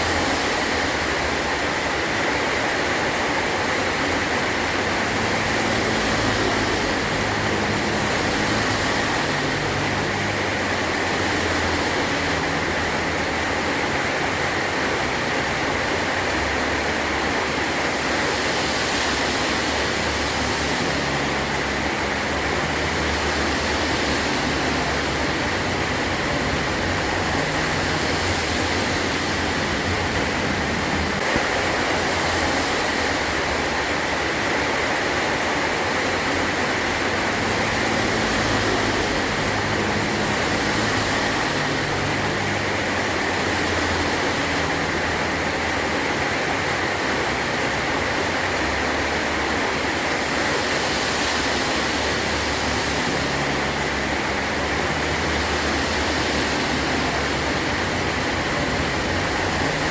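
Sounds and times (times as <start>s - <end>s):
heavy rain on a metal roof: 0.0s - 59.9s.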